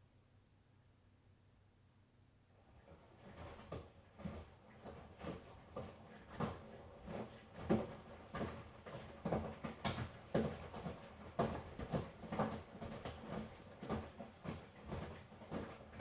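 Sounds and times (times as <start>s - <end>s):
washing machine running: 2.7s - 16.0s.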